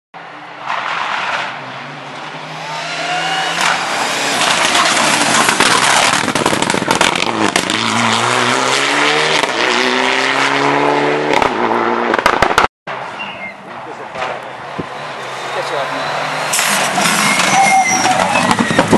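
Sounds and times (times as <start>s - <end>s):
rally car engine revving: 0.7s - 12.7s, 14.0s - 18.9s.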